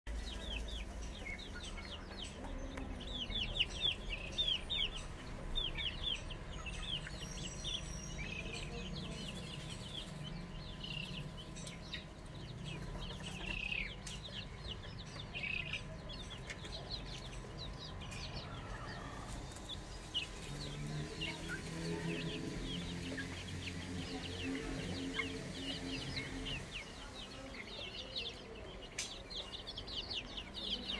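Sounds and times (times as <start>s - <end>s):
chicks peeping: 0.1s - 30.9s.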